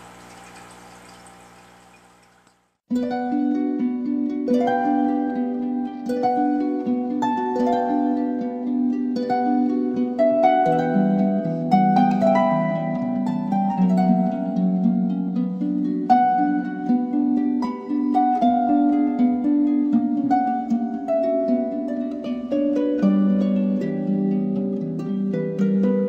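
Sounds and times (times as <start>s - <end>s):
plucked instrumental melody: 2.9s - 26.0s.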